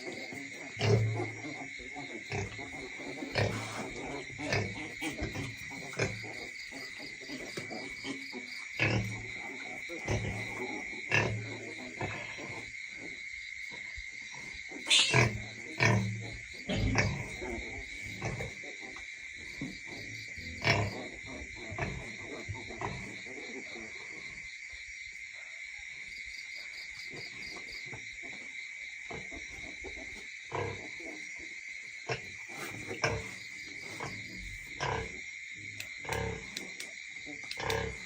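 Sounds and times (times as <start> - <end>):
pigs grunting: 0.0 - 24.4, 29.1 - 38.0.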